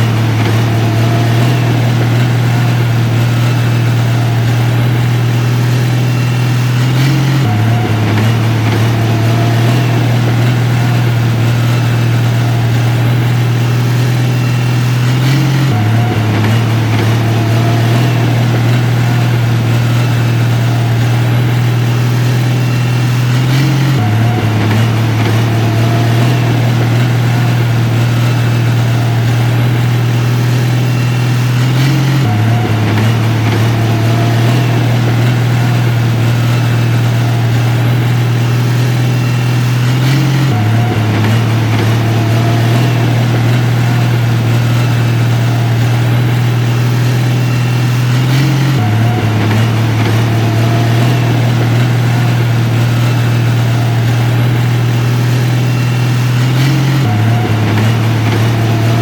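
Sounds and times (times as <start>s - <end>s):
diesel engine low drone: 0.0s - 59.0s.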